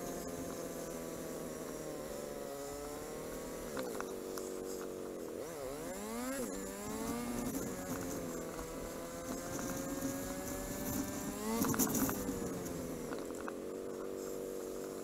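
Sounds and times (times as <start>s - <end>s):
clatter: 0.0s - 15.0s
motorcycle engine running: 0.0s - 15.0s.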